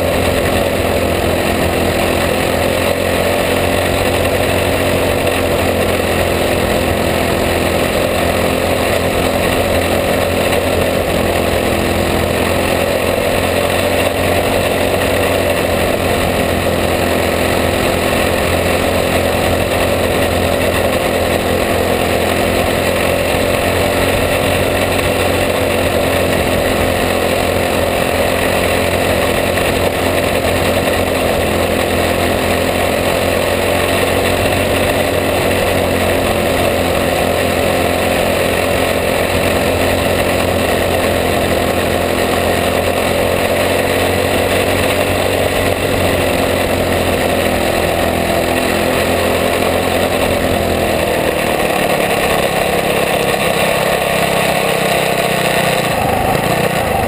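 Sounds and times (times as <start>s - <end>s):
kart engine at high revs: 0.0s - 57.0s.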